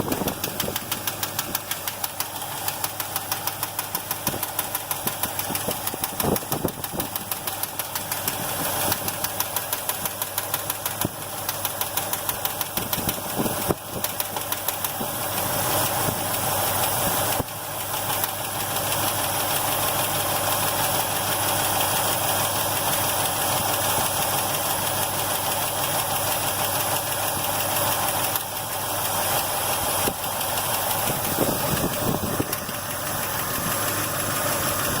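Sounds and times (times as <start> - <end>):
engine idling: 0.0 - 35.0
rapid valvetrain ticking: 0.0 - 35.0.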